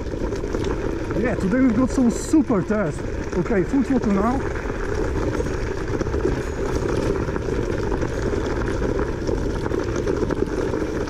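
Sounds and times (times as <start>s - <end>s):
electric scooter running: 0.0s - 11.0s
tyres crunching on small rocks: 0.0s - 11.0s.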